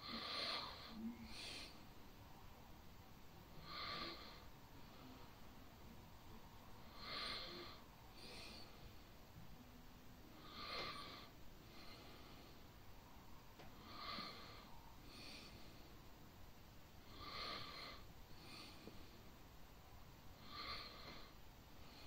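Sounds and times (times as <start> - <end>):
faint breathing: 0.0 - 2.9, 3.5 - 9.6, 10.2 - 16.4, 17.0 - 22.0.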